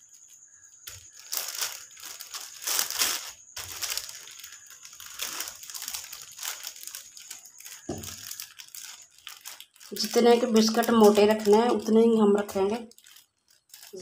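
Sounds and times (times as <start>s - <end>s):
plastic sheet crinkling: 0.0s - 14.0s.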